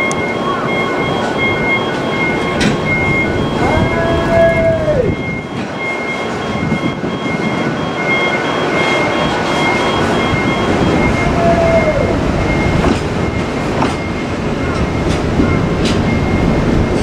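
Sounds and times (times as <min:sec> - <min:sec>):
level-crossing warning bell: 0:00.0 - 0:17.0
passing train rumble: 0:00.0 - 0:17.0.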